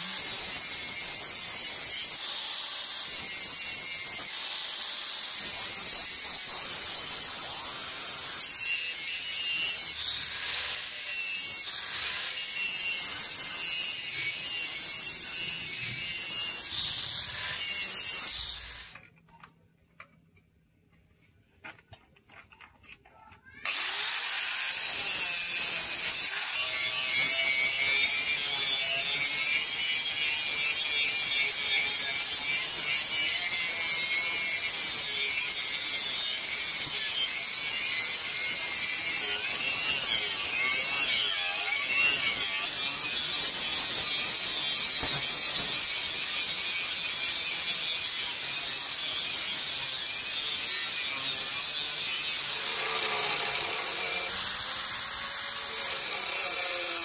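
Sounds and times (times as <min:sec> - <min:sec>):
angle grinder grinding steel: 0:00.0 - 0:19.0, 0:23.6 - 0:57.0.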